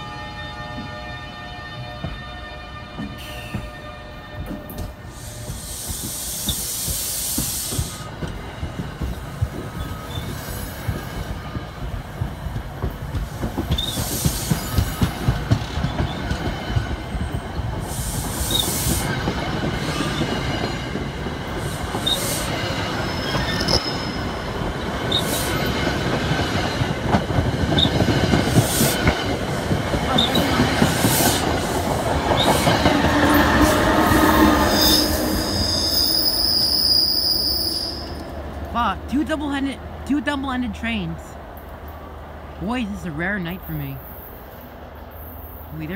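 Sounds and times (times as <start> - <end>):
train wheels rumbling on rails: 0.0 - 42.8
electric locomotive passing: 0.0 - 45.9.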